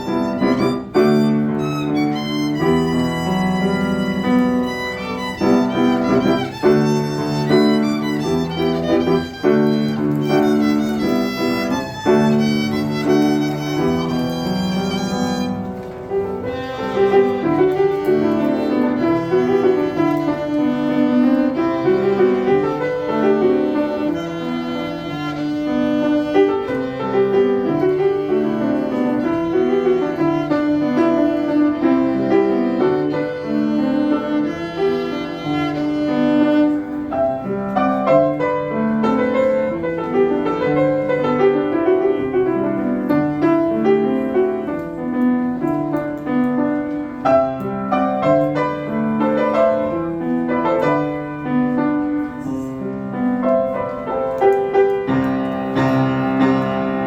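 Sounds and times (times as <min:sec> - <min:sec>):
piano accompaniment: 0:00.0 - 0:57.0
solo melody instrument: 0:00.0 - 0:57.0.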